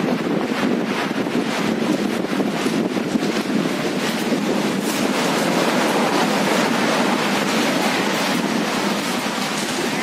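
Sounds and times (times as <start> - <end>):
surf washing against rocks: 0.0 - 10.0.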